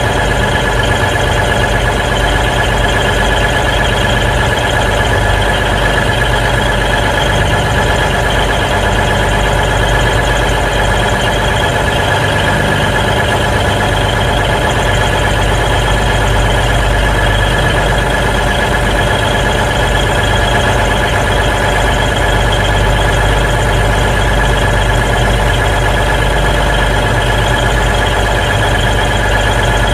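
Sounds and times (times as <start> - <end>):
diesel engine idling: 0.0 - 29.9
high whine: 0.0 - 29.9.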